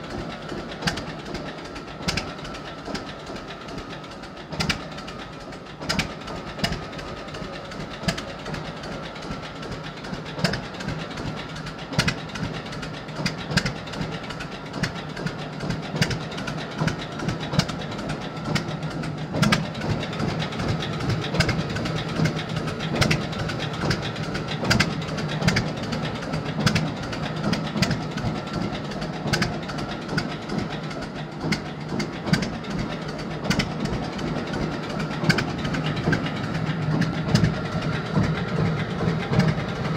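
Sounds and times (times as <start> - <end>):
engine pops: 0.0 - 39.9
tractor engine idling: 0.0 - 39.9.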